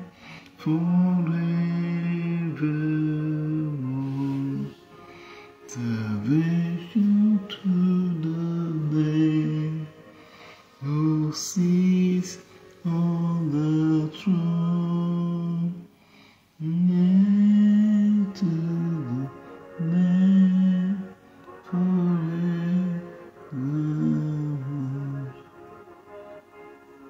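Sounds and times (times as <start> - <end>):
man singing slow song: 0.0 - 5.0, 5.6 - 16.0, 16.6 - 25.5.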